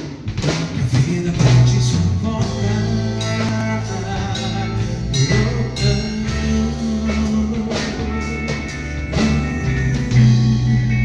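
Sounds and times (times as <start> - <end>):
bass guitar: 0.0 - 11.0
drum kit: 0.0 - 11.0
guitar: 0.0 - 11.0.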